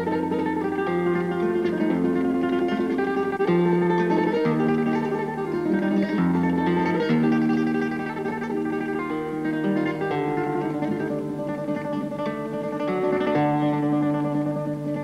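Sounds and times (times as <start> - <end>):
solo flamenco guitar: 0.0 - 15.0.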